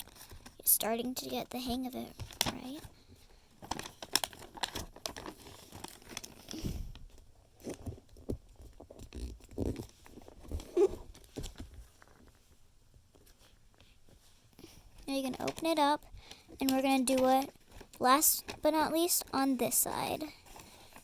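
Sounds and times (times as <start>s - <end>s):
paper crinkling: 2.2s - 21.0s.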